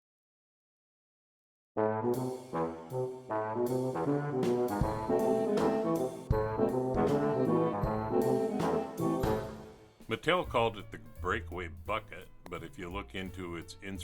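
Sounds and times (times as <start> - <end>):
brass-like intro music: 1.8 - 14.0.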